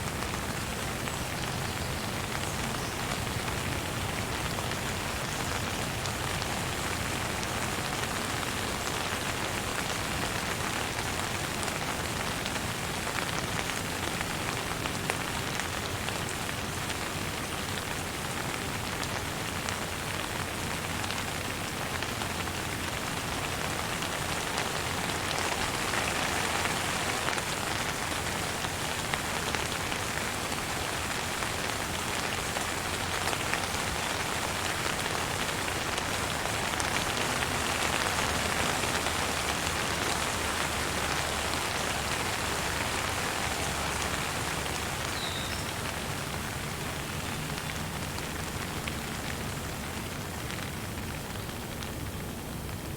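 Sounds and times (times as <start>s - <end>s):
steady rain pattering: 0.0s - 52.9s.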